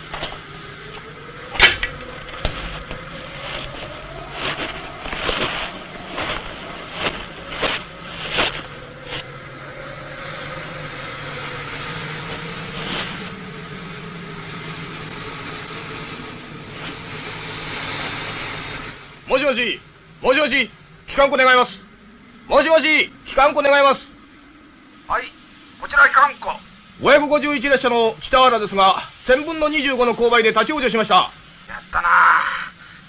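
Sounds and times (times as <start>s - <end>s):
steam locomotive exhaust chuffs: 0.0s - 33.0s
steam noise: 0.0s - 33.0s.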